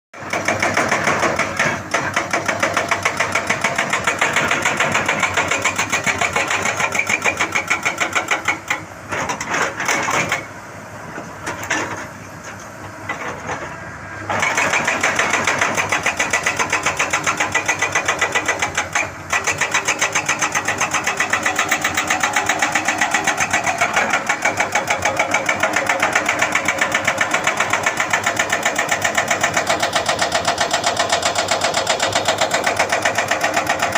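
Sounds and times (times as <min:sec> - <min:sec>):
hydraulic breaker hammering: 0:00.2 - 0:10.4, 0:14.3 - 0:33.9
excavator engine running: 0:00.2 - 0:33.9.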